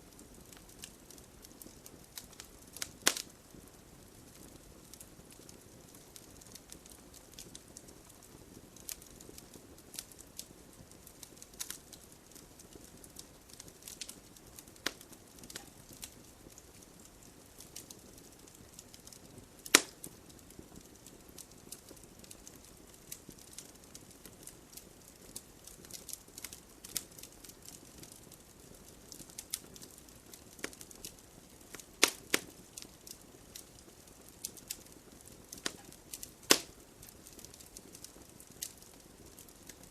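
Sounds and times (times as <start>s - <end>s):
crackles and pops of burning logs: 0.0s - 39.9s
wood fire hissing: 0.0s - 39.9s.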